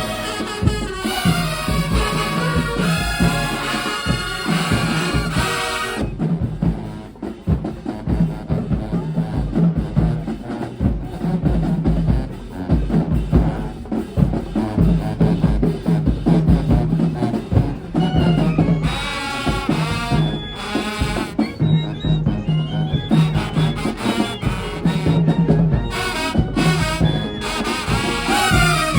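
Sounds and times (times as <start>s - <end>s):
marching band brass: 0.0s - 28.9s
snare and bass drum cadence: 0.0s - 28.9s.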